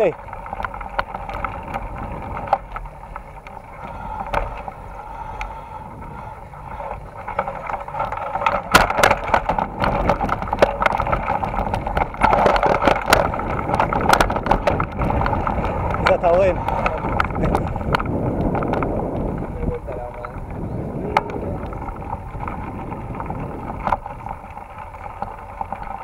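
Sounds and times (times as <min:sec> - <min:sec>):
bike rattling and knocking: 0:00.0 - 0:26.0
bike tyres on dirt: 0:00.0 - 0:26.0.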